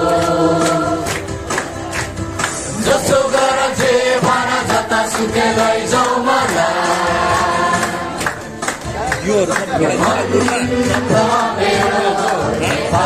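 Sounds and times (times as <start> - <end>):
backing track with steady beat: 0.0 - 13.0.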